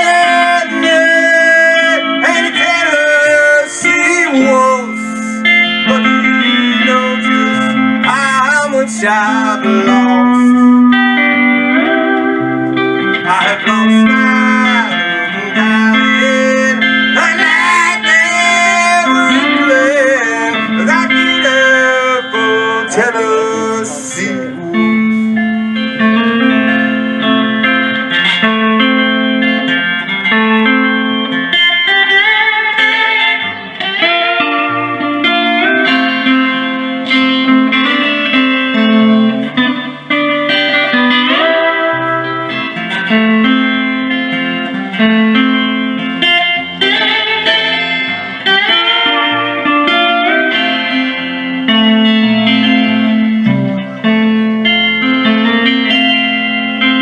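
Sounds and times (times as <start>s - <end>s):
bass line: 0.0s - 57.0s
lead guitar melody: 0.0s - 57.0s.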